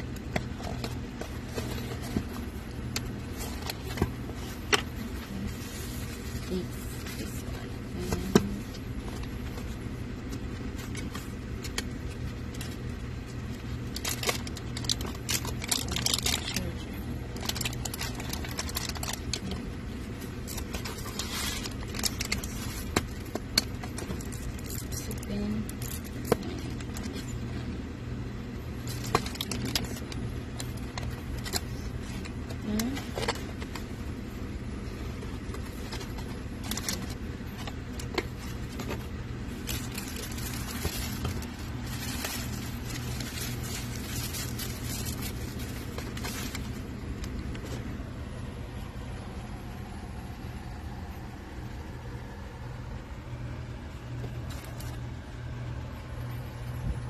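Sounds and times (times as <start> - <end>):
bubble wrap crinkling: 0.0 - 27.8, 28.5 - 48.2
plastic packaging rustling: 0.0 - 27.8, 28.6 - 48.6, 54.1 - 55.2
low background rumble: 0.0 - 57.0
steady low hum: 0.0 - 57.0.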